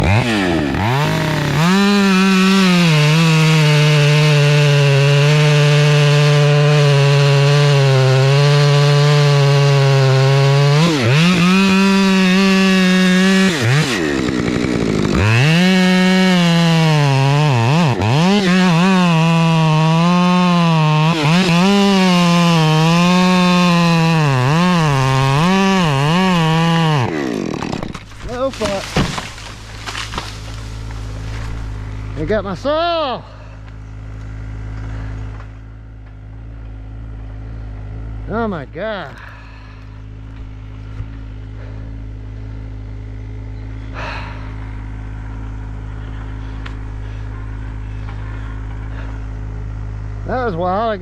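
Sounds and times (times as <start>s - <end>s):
chainsaw cutting wood: 0.0s - 50.6s.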